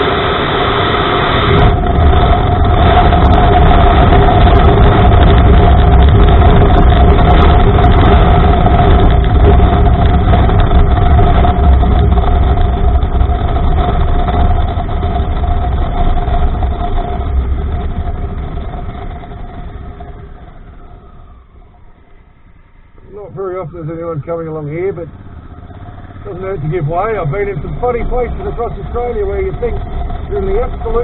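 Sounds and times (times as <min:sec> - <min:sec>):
motorcycle engine: 0:00.0 - 0:31.0
wind rumble on microphone: 0:00.0 - 0:31.0.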